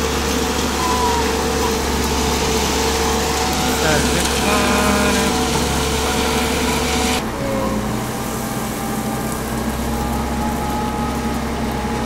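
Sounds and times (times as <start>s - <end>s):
diesel engine running with a whine: 0.0s - 12.0s.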